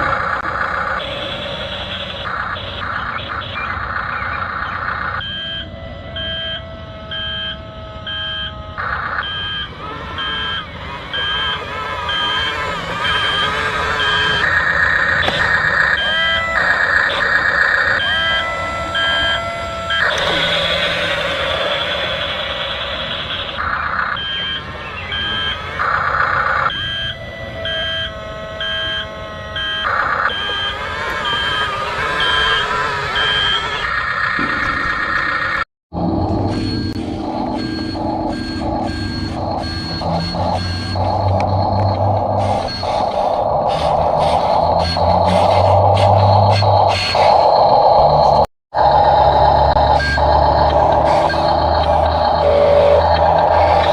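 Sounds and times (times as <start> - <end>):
electronic reversing beeper: 0.0 - 53.9
steady mechanical whir: 0.0 - 53.9.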